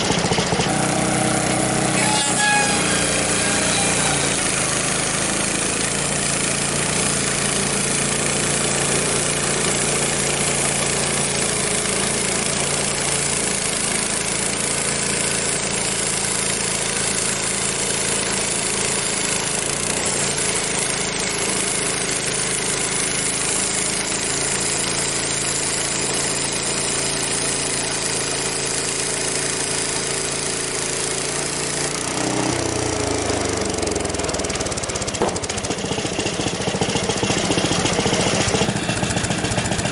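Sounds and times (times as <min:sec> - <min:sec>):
band saw blade sawing log: 0:00.0 - 0:39.9
gas engine running: 0:00.0 - 0:39.9.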